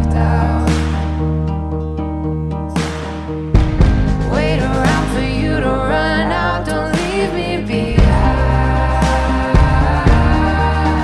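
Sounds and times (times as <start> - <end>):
instrumental pop music: 0.0 - 11.0.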